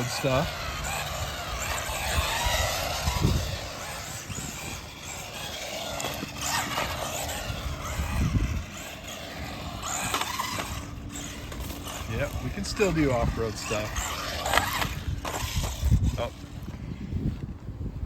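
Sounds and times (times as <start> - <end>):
rc car motor whining: 0.0 - 17.6
tyres on dirt: 0.0 - 17.7.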